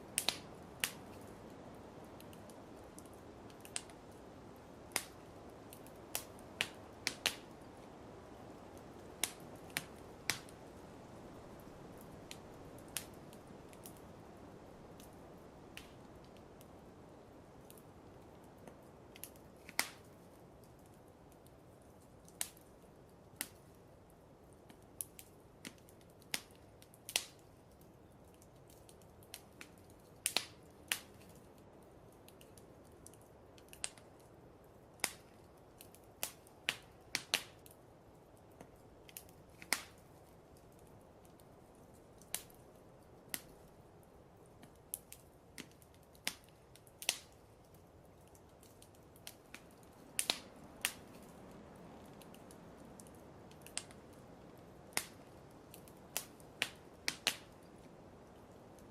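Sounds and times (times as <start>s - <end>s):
low steady hiss: 0.0s - 58.9s
wood fire crackling: 0.0s - 58.9s.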